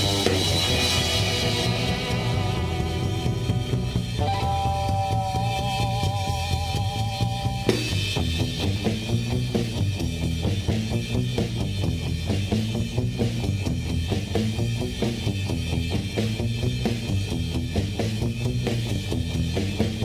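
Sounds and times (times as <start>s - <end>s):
rock music with drums and bass: 0.0s - 20.0s.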